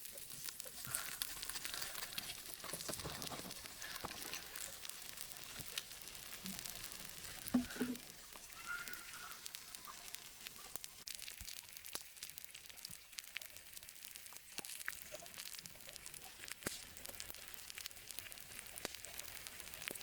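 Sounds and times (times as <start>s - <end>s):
meat sizzling with crackles: 0.0s - 20.0s.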